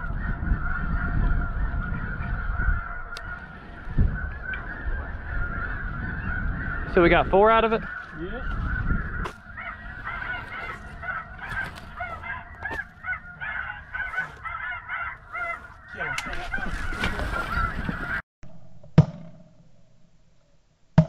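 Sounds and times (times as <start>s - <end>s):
geese honking: 0.0s - 18.2s.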